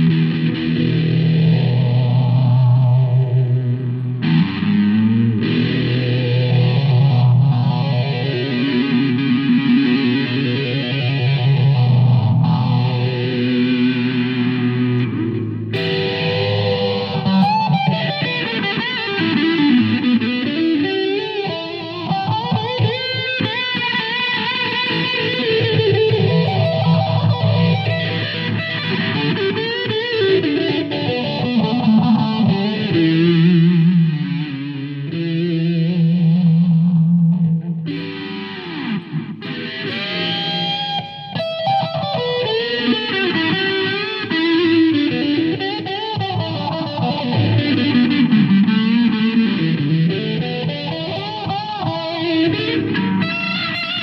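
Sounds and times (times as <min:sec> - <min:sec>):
distorted electric guitar lead: 0:00.0 - 0:54.0.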